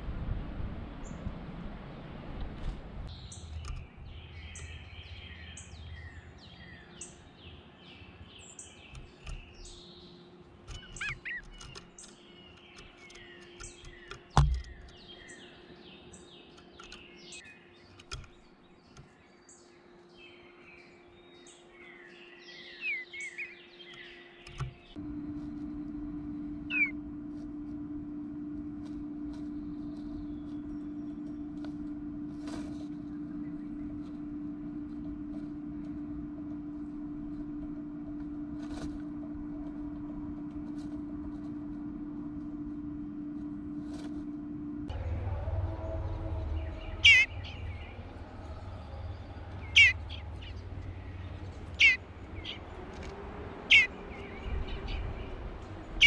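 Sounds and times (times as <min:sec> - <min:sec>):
steady hum: 0:00.0 - 0:56.0
songbirds chirping: 0:03.0 - 0:56.0.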